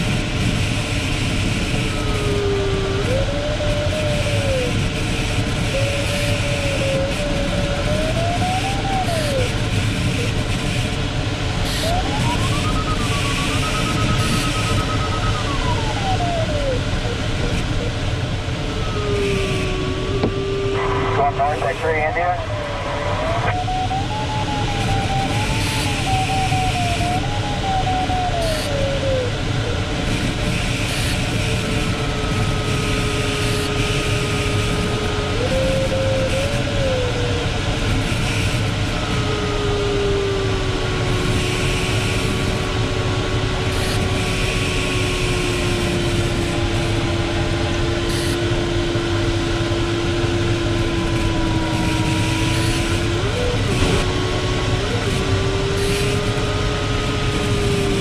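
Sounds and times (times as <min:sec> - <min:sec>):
electronic variometer tone: 0:04.2 - 0:36.8, 0:40.9 - 0:58.0.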